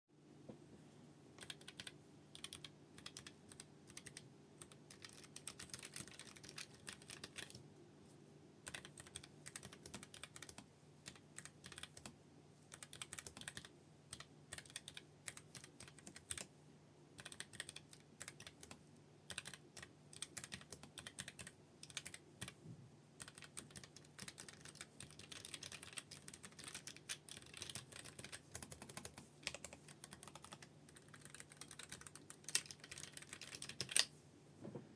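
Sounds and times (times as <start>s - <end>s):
mechanical keyboard typing: 1.4s - 7.6s, 8.6s - 12.1s, 12.7s - 16.5s, 17.2s - 22.6s, 23.2s - 34.1s.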